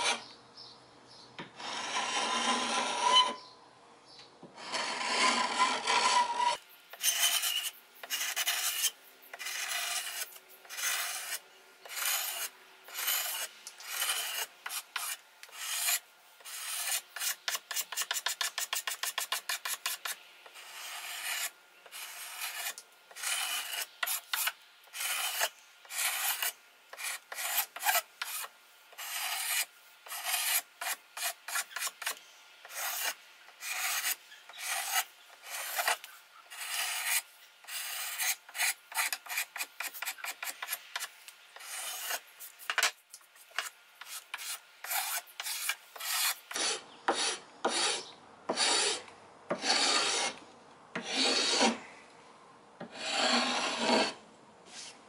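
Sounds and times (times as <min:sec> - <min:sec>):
file rasping on wood: 0:04.6 - 0:42.2, 0:43.5 - 0:50.4, 0:51.0 - 0:51.8, 0:52.8 - 0:54.2.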